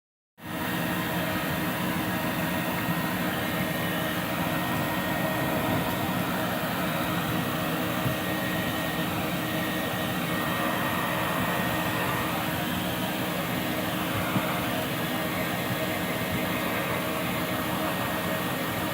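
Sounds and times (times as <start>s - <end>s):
dryer blowing air: 0.4s - 18.9s.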